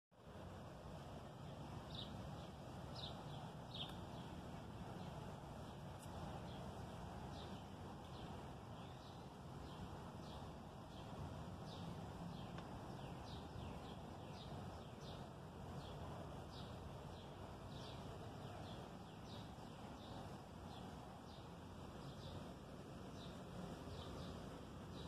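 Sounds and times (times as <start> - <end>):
low steady background hum: 0.2 - 25.0
bird chirping: 1.4 - 25.0.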